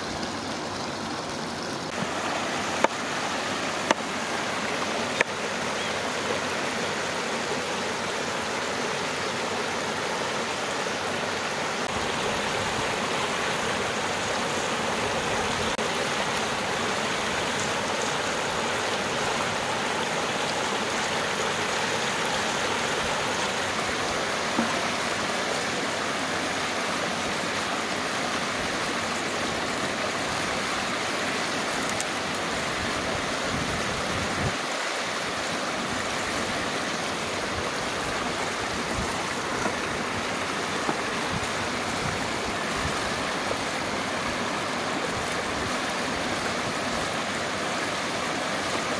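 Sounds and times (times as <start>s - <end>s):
stream rushing over cascade: 0.0s - 48.9s.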